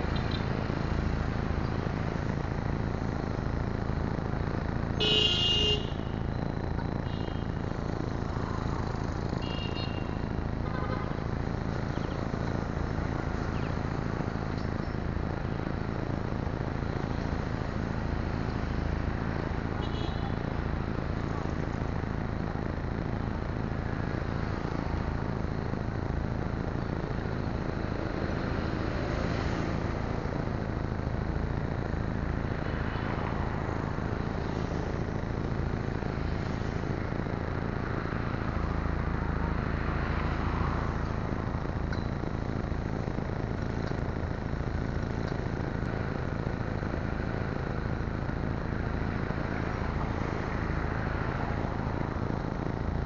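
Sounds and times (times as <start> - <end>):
roadside traffic rumble: 0.0 - 53.0.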